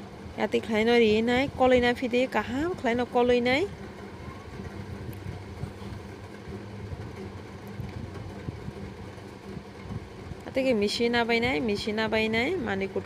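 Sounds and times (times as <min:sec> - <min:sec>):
low mechanical hum: 0:00.0 - 0:13.0
low rumble: 0:00.2 - 0:13.0.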